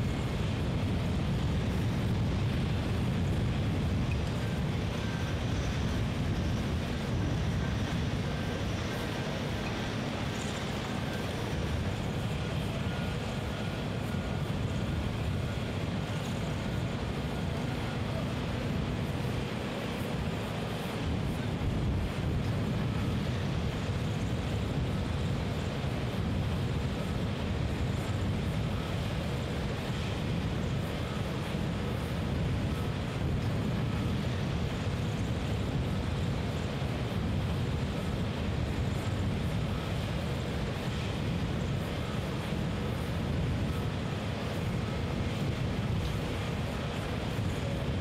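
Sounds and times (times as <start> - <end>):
distant heavy machinery: 0.0 - 48.0
faint high whine: 0.0 - 48.0
wind rumbling on microphone: 0.0 - 48.0.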